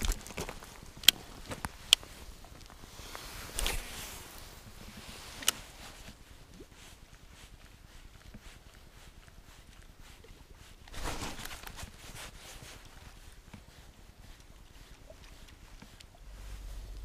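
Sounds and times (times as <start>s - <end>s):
crunching rustle: 0.0s - 17.0s
scuffs on stony shore: 0.0s - 17.0s.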